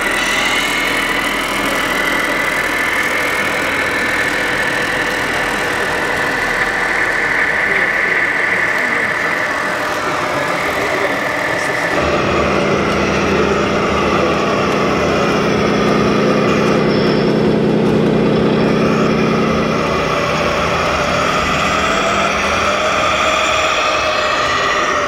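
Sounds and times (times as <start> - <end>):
diesel truck engine from loudspeaker: 0.0 - 25.0.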